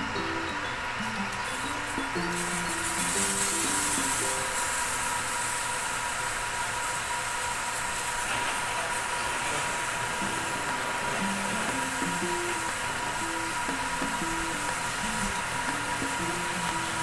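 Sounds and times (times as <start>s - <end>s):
pressure washer motor whine: 0.0s - 17.0s
water jet hissing: 0.0s - 17.0s.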